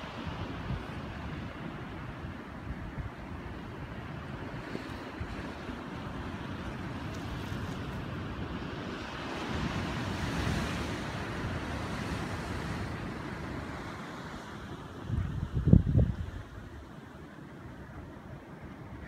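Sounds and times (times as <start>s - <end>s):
sea waves breaking: 0.0s - 19.0s
wind blowing across microphone: 0.0s - 19.0s.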